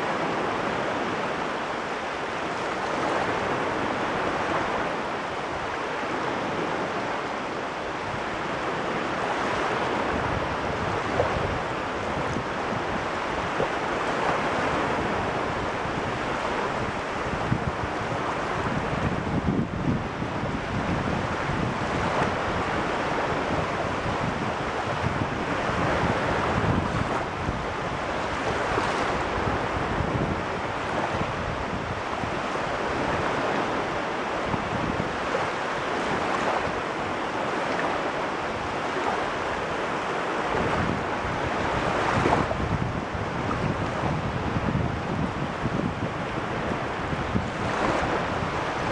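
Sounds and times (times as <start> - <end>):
waves washing in: 0.0 - 48.9
wind buffeting microphone: 2.5 - 48.9.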